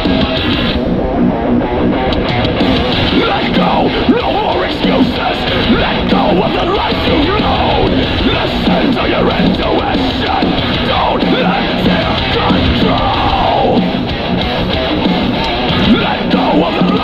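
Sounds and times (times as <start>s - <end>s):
heavy rock music with vocals: 0.0s - 17.0s.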